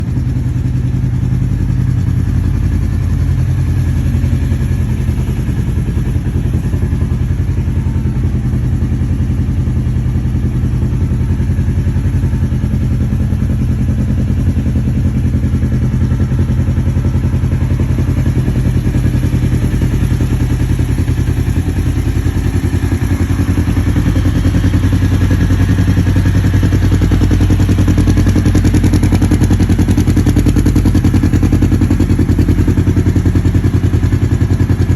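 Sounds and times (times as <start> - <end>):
engine running at low speed: 0.0 - 34.9.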